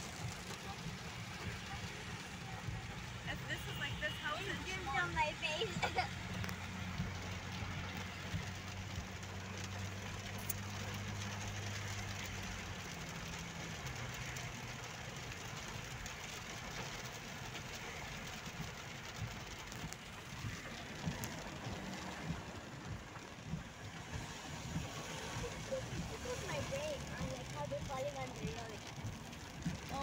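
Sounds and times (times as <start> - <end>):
low engine hum: 0.0 - 30.0
tyre noise on wet road: 0.0 - 30.0
light ticks: 3.8 - 30.0.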